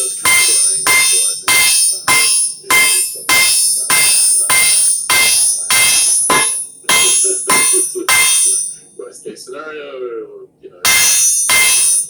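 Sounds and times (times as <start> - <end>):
hammer striking an anvil: 0.0 - 8.8, 10.9 - 12.0.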